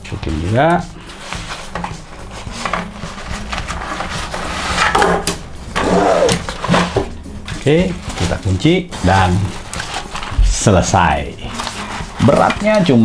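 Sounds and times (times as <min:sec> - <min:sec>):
fabric rustling: 0:00.4 - 0:13.0
scraping: 0:00.9 - 0:13.0.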